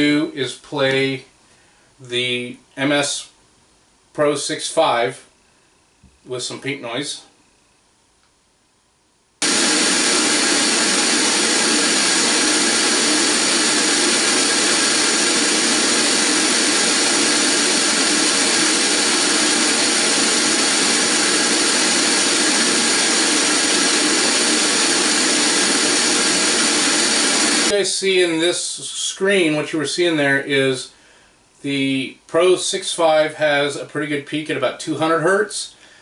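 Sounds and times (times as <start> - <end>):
pink noise hiss from speaker: 0.0 - 7.5, 9.4 - 36.0.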